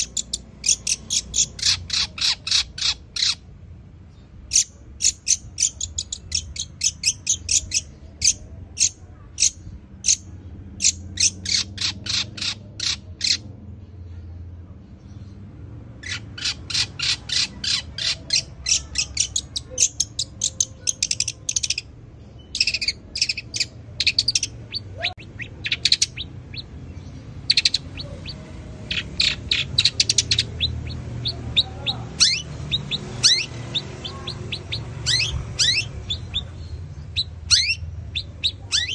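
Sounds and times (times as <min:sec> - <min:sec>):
bird chirping sharply: 0:00.0 - 0:03.5, 0:04.1 - 0:13.5, 0:16.0 - 0:38.9.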